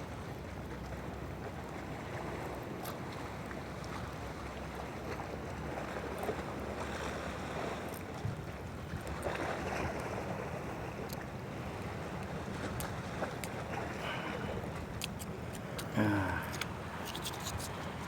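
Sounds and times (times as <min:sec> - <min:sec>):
sea waves washing on shore: 0:01.6 - 0:18.0.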